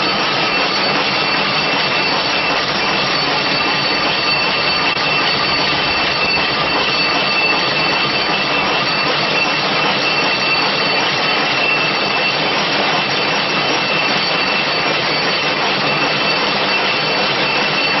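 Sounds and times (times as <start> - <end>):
machine whirring with high whine: 0.0 - 18.0.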